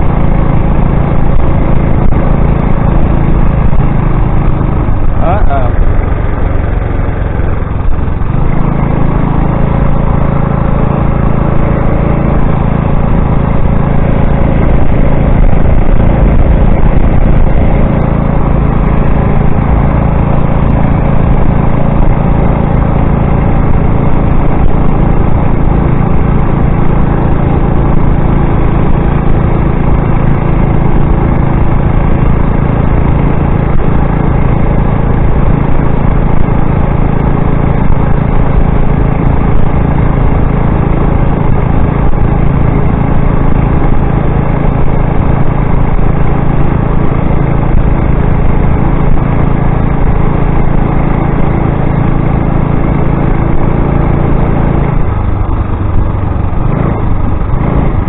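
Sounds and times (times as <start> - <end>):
motorized bicycle engine humming: 0.0 - 58.0
wind and road noise: 0.0 - 58.0.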